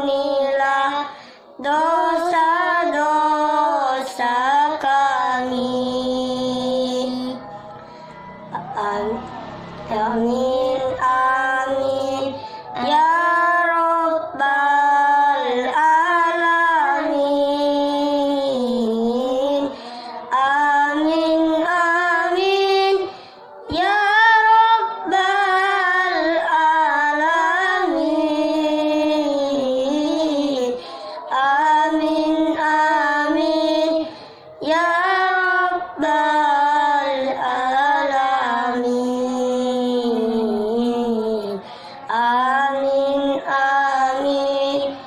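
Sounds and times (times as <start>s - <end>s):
child singing a prayer song: 0.0s - 45.0s.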